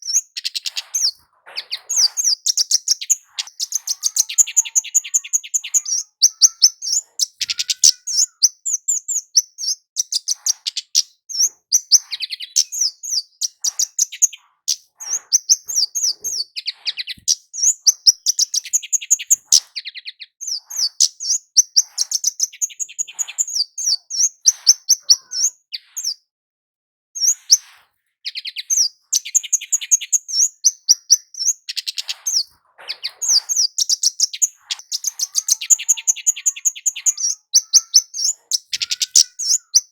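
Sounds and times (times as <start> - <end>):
bird high chirps: 0.0 - 26.3, 27.2 - 39.9.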